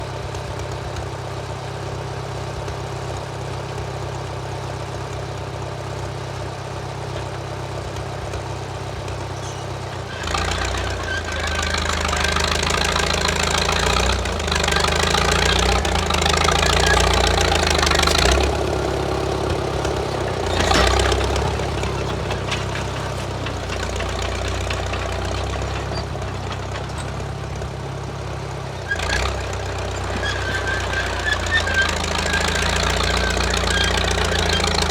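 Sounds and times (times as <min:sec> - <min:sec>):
bulldozer engine running: 0:00.0 - 0:34.9.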